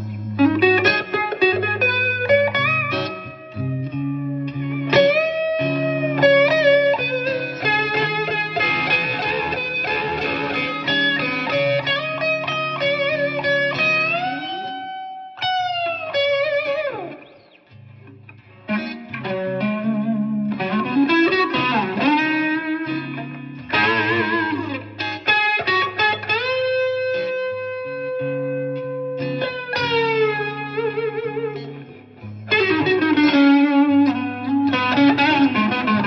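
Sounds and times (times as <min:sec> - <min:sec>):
distorted electric guitar: 0:00.0 - 0:36.0.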